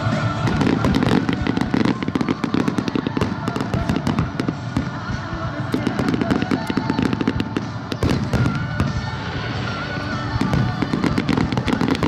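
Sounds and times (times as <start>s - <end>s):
fireworks crackling and popping: 0.0s - 12.0s
music playing: 0.0s - 12.0s.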